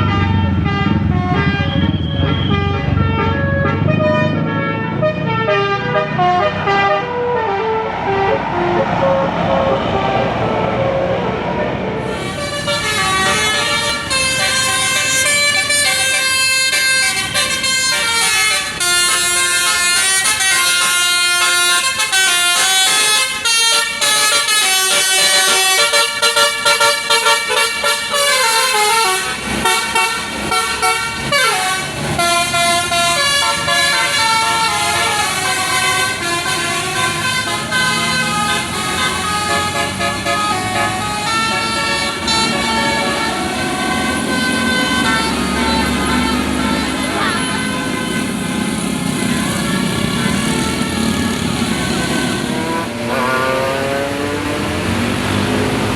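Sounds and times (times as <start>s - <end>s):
musical bus air horn melody: 0.0s - 53.9s
road noise: 0.0s - 55.9s.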